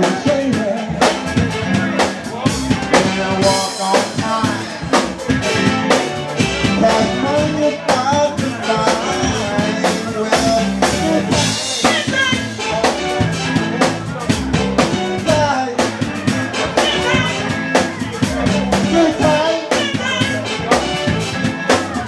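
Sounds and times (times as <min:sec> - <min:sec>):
drum kit beat: 0:00.0 - 0:22.0
soul band playing: 0:00.0 - 0:22.0.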